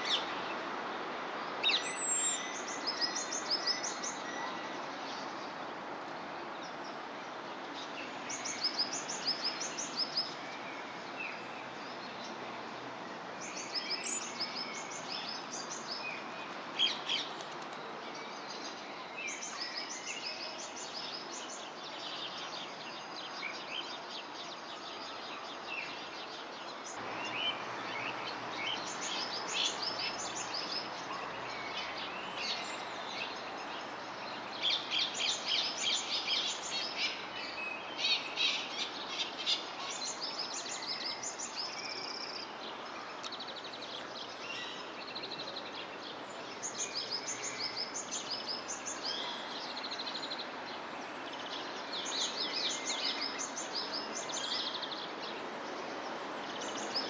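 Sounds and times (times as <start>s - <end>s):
outdoor background noise: 0.0s - 57.0s
small birds chirping: 6.5s - 57.0s.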